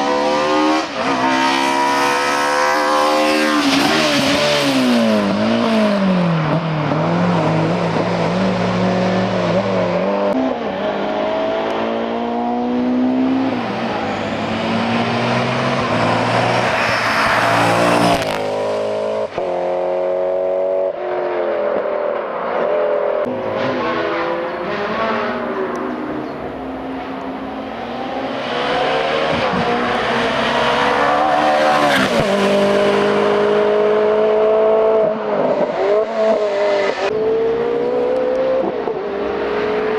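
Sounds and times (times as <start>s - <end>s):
race car engines accelerating: 0.0s - 39.9s.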